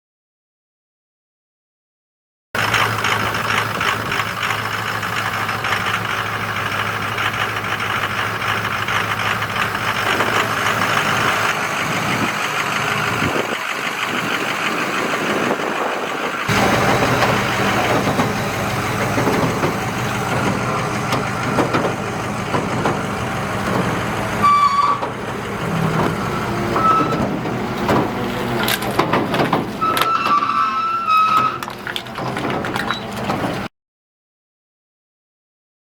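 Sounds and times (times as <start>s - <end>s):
truck engine running: 2.6s - 33.7s.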